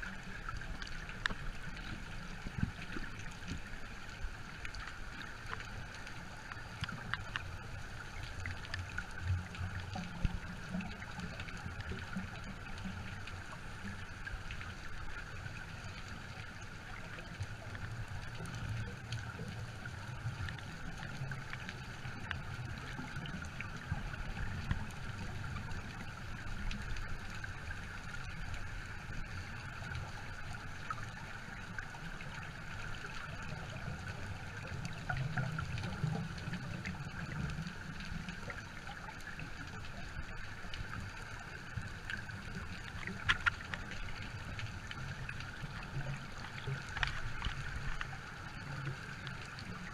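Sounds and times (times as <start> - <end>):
faint clicks: 0.0 - 49.9
underwater sloshing rumble: 0.0 - 49.9.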